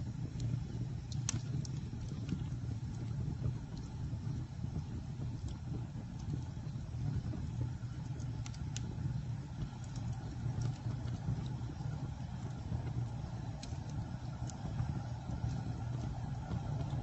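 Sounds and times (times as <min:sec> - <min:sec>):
bonfire flames rumbling: 0:00.0 - 0:17.0
fire crackling and popping: 0:00.0 - 0:17.0.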